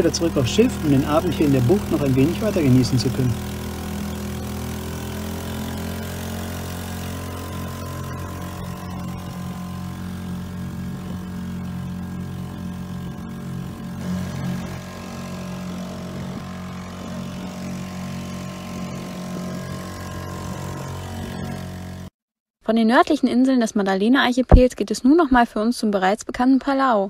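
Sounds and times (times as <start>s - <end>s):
outboard motor running: 0.0s - 22.2s.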